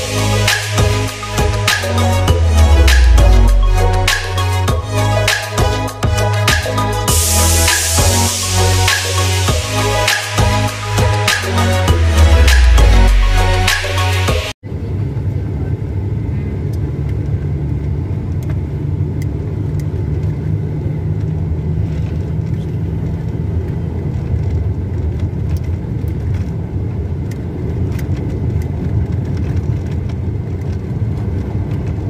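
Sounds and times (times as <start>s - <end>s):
road and engine rumble: 0.0s - 32.0s.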